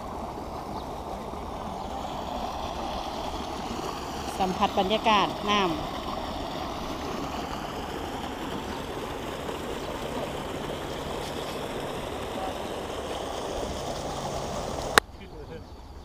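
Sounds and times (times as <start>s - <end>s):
water rushing into a pond: 0.0s - 15.0s.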